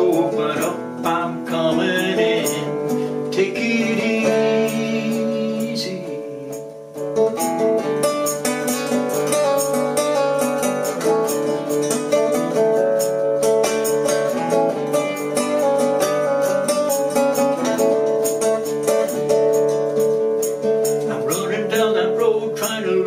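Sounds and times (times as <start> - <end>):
acoustic guitar picking: 0.0 - 23.0.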